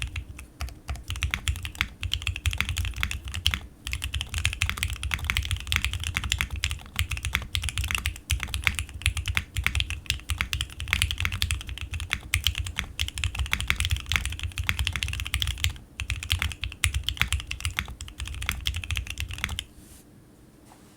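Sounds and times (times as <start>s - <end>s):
fast mechanical keyboard typing: 0.0s - 19.7s.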